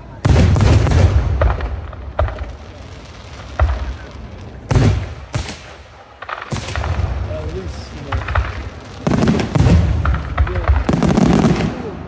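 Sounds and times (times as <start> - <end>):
firework shells booming: 0.2 - 12.0.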